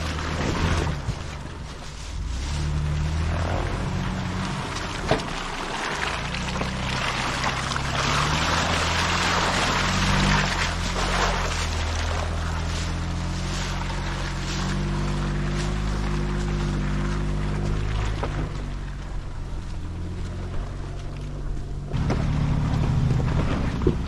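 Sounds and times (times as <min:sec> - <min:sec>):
suv engine running at low revs: 0:00.0 - 0:24.0.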